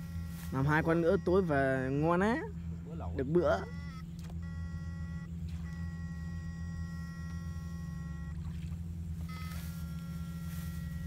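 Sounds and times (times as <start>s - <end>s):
high-pitched multi-tone whine: 0.0s - 11.0s
low buzzing hum: 0.0s - 11.0s.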